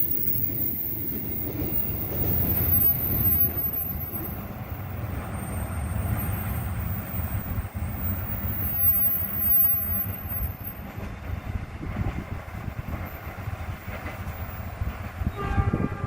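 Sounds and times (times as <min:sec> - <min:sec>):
train wagons rumbling on rails: 0:00.0 - 0:16.0.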